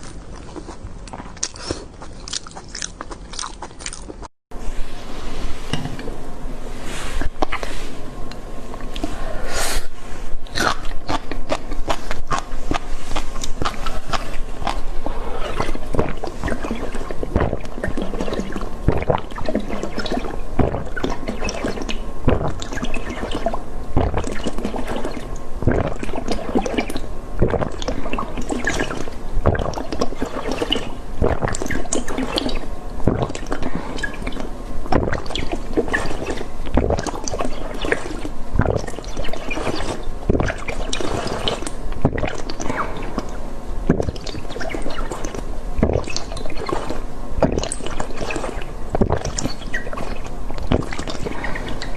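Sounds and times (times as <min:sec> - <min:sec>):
wet mouth eating sounds: 0:00.0 - 0:04.3, 0:07.1 - 0:07.9, 0:08.7 - 0:51.9.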